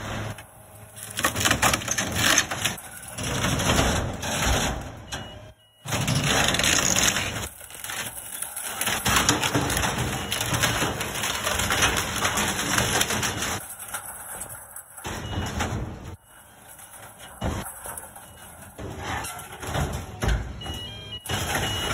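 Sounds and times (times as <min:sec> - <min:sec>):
wooden pallets cracking: 0:00.0 - 0:21.9.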